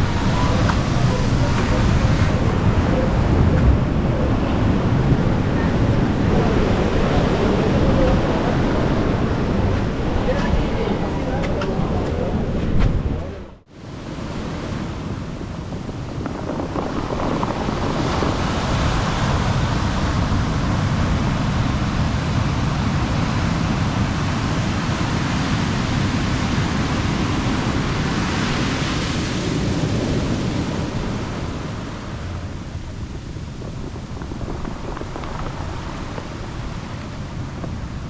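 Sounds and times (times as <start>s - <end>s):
ocean waves breaking: 0.0s - 38.0s
wind rumbling on microphone: 0.0s - 38.0s.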